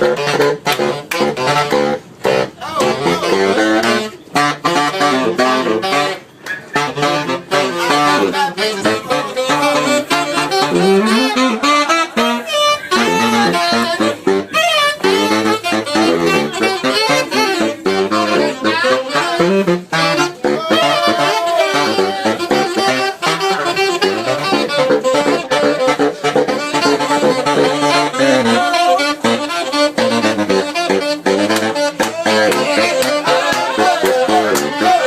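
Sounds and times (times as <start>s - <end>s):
saxophone playing fast runs: 0.0s - 35.0s.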